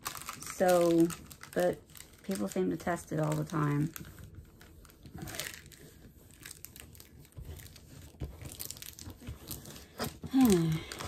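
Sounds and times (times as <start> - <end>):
plastic covering crinkling: 0.0 - 11.0.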